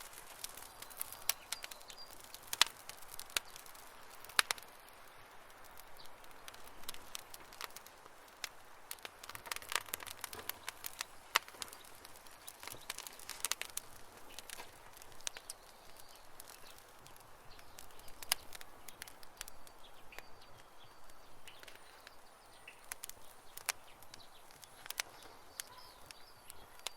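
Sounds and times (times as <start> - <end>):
campfire crackling: 0.0 - 26.9.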